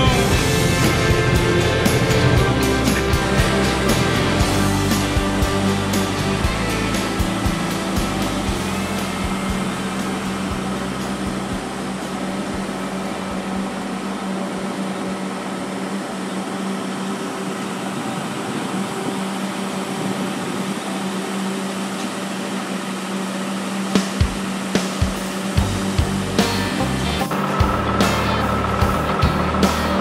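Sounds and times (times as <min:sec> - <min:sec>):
harvest machinery droning: 0:00.0 - 0:30.0.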